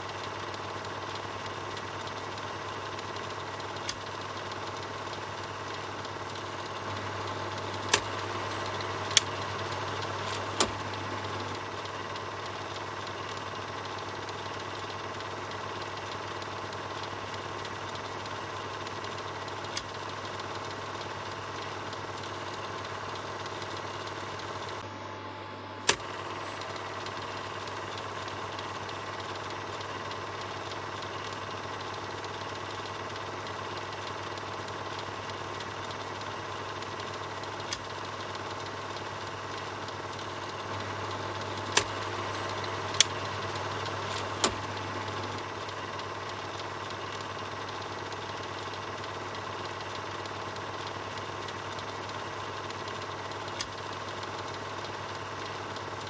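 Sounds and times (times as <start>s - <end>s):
film projector whirring: 0.0s - 56.0s
sharp clicks: 0.2s - 24.8s, 25.9s - 56.0s.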